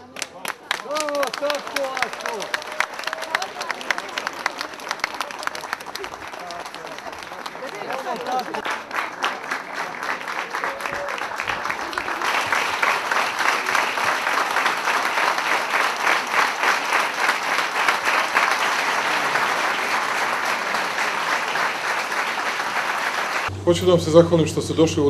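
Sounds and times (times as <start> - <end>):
crowd applauding: 0.0 - 23.5.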